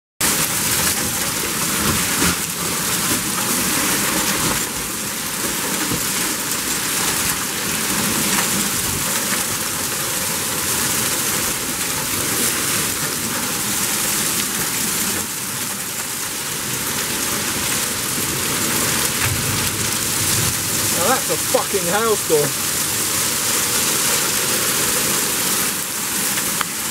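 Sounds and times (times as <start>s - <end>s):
hail and rain falling: 0.2s - 26.9s.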